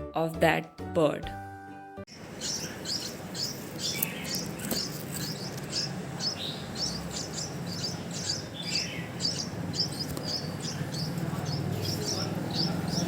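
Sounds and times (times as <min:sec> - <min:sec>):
bird chick chirping: 0:02.1 - 0:13.0.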